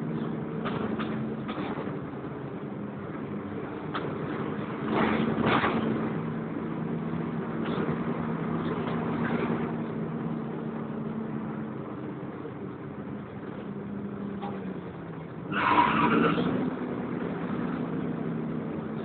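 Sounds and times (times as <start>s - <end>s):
bus engine and fan droning: 0.0s - 19.0s.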